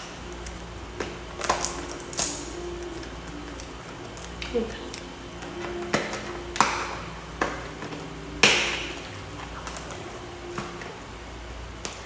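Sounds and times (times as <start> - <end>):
packaging taps and clicks: 0.4 - 10.9.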